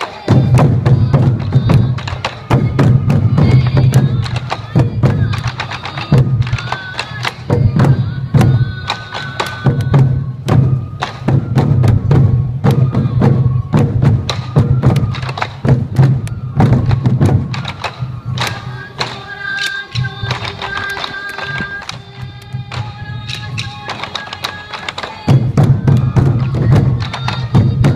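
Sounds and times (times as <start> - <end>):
bamboo flute melody: 0.0 - 27.9
taiko drums beating: 0.0 - 27.9.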